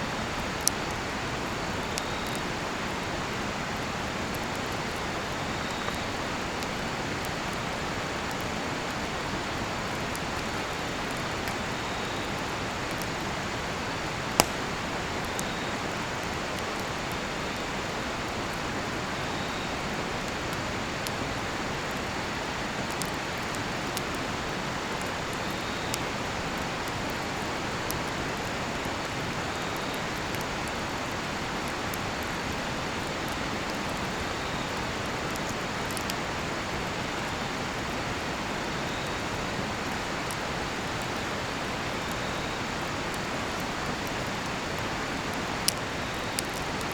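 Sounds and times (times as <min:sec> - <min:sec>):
campfire crackling and popping: 0:00.1 - 0:46.9
crickets chirping: 0:01.0 - 0:08.0, 0:08.6 - 0:22.8, 0:23.7 - 0:27.1, 0:32.1 - 0:46.9.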